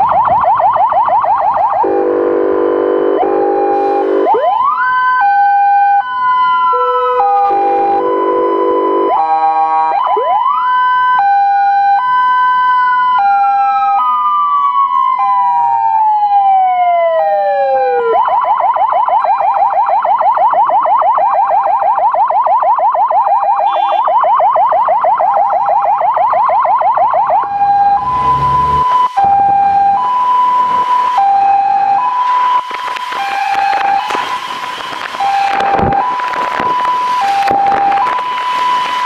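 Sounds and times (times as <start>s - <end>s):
two-tone siren: 0.0s - 39.0s
wailing and yelping siren: 0.0s - 39.0s.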